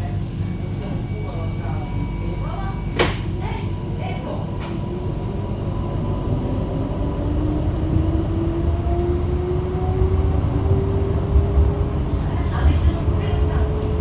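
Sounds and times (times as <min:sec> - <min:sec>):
low running rumble: 0:00.0 - 0:14.0
tram motor whine rising: 0:00.4 - 0:14.0.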